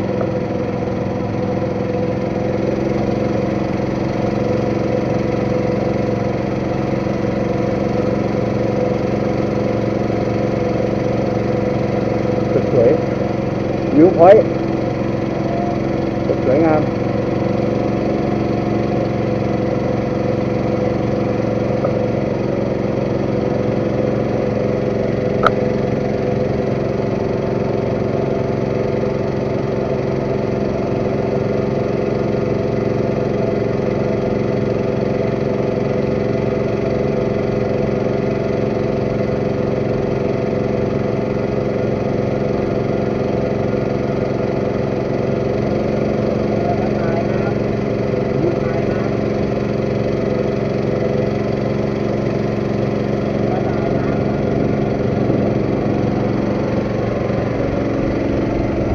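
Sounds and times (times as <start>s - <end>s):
boat engine running: 0.0s - 58.9s.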